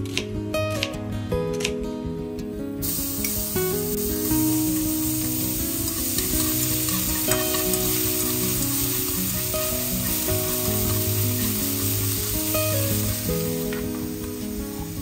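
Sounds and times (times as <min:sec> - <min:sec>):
garlic sizzling in hot oil: 0:02.8 - 0:15.0
utensil stirring in pan: 0:02.9 - 0:15.0.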